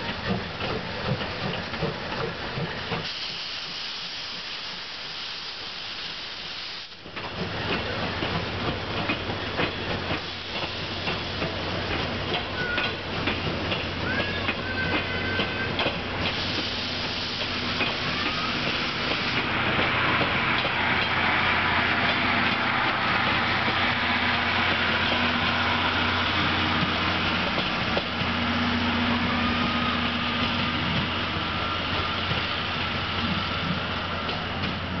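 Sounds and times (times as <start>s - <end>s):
train coaches rolling on rails: 0.0s - 35.0s.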